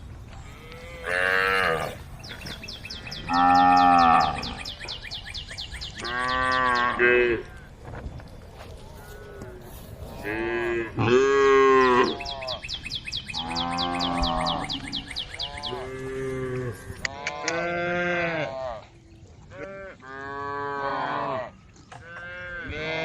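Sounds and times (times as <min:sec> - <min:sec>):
cows mooing: 0:00.4 - 0:04.8, 0:06.0 - 0:07.7, 0:09.0 - 0:12.6, 0:13.3 - 0:18.9, 0:19.6 - 0:23.0.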